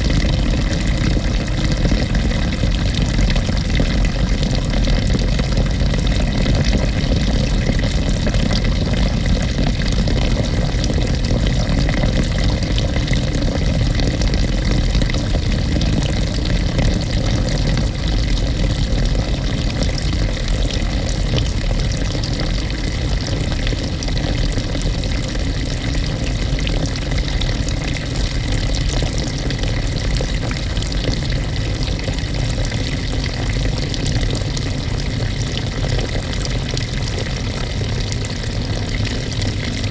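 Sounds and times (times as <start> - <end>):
water rushing into washing machine tub: 0.0 - 39.9.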